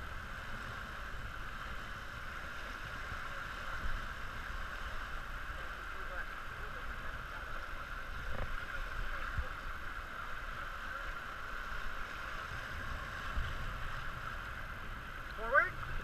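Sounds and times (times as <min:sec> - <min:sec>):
river flowing over rocks: 0:00.0 - 0:16.0.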